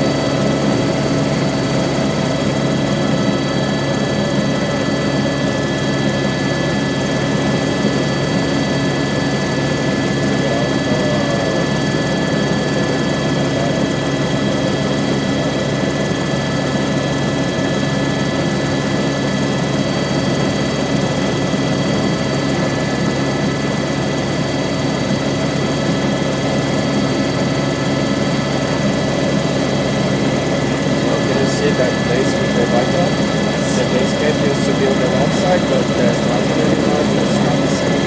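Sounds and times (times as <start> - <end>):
helicopter cabin drone: 0.0 - 38.0.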